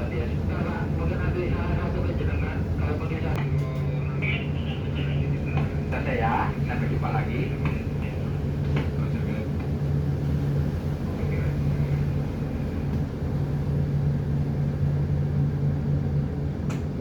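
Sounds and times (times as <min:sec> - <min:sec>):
ship engine humming: 0:00.0 - 0:17.0.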